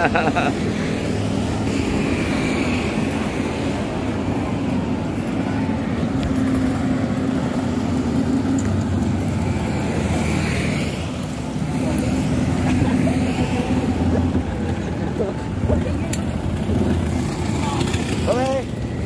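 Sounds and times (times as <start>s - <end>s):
road traffic engines: 0.0s - 19.0s.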